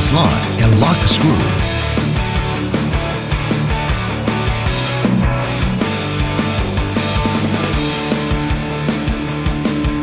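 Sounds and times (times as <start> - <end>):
rock music with driving drums: 0.0 - 10.0.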